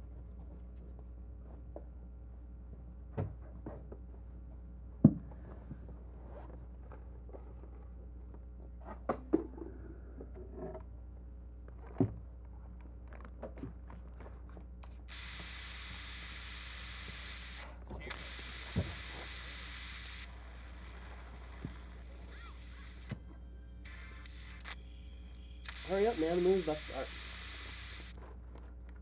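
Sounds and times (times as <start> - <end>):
steady low hum: 3.8 - 29.0.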